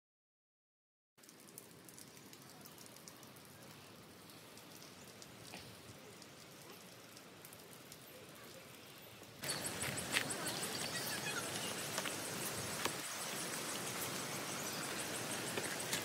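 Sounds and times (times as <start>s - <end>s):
light rain falling: 1.2s - 16.0s.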